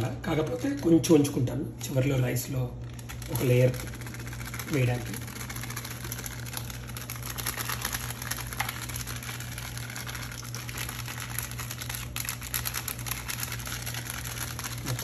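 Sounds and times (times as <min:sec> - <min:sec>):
foil packet tapping and crinkling: 0:00.0 - 0:15.0
steady low hum: 0:00.0 - 0:15.0.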